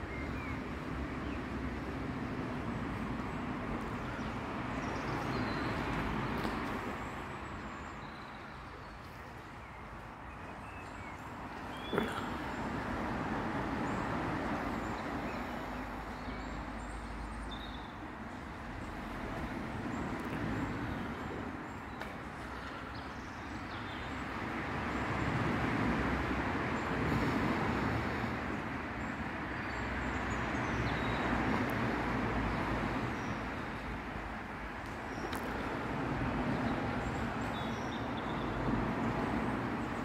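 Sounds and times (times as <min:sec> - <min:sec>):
road traffic rumbling: 0:00.0 - 0:40.0.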